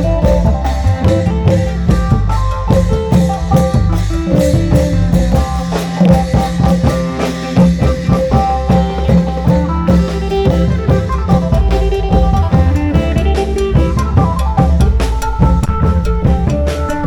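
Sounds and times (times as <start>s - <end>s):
busy drumming: 0.0s - 17.0s.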